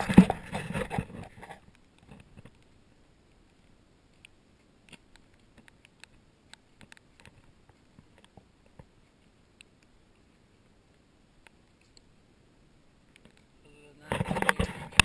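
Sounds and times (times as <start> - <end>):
faint irregular clicks: 0.0 - 15.0.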